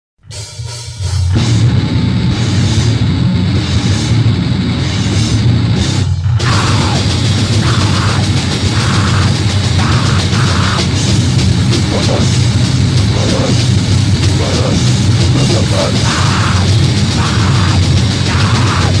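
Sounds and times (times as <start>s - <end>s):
loud distorted heavy music: 0.2s - 19.0s.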